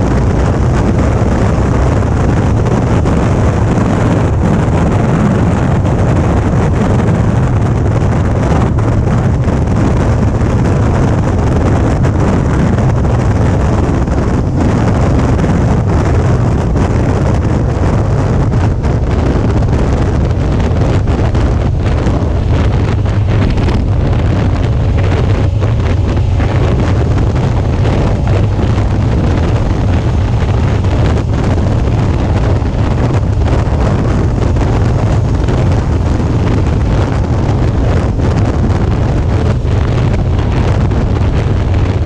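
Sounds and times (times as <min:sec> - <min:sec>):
motorcycle engine cruising: 0:00.0 - 0:42.0
wind rushing over microphone: 0:00.0 - 0:42.0.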